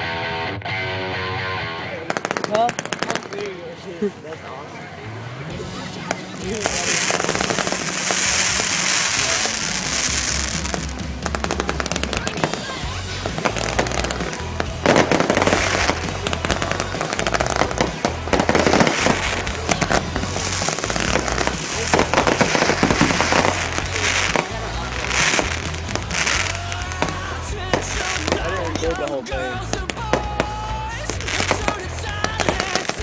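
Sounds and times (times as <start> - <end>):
fireworks bursting with crackling: 1.7 - 33.0.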